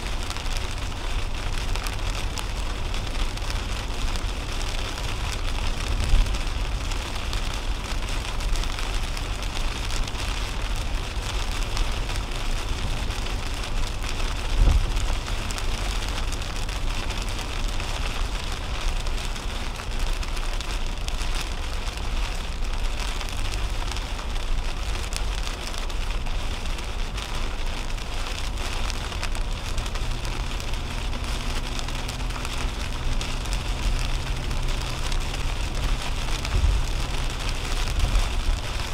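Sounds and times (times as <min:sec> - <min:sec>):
heavy rain on a car: 0:00.0 - 0:38.9
tyres hissing on wet road: 0:00.0 - 0:38.9.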